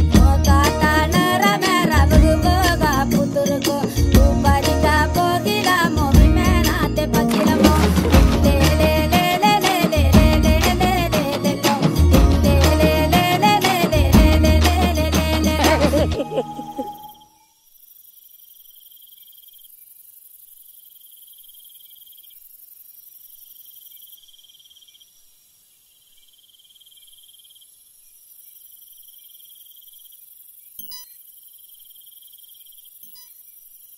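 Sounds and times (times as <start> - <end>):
steady high hiss: 0.0 - 33.9
insects trilling: 0.6 - 7.9, 8.5 - 33.9.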